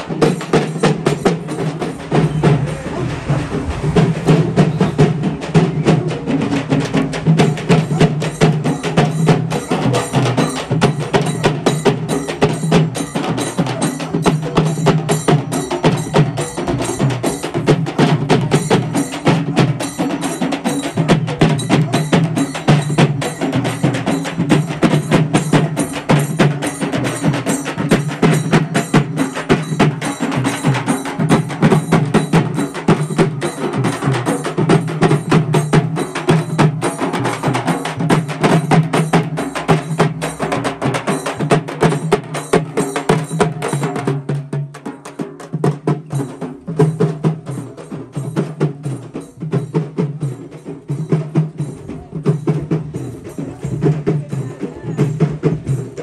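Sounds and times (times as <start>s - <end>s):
frame drums beaten with sticks: 0.0s - 56.0s.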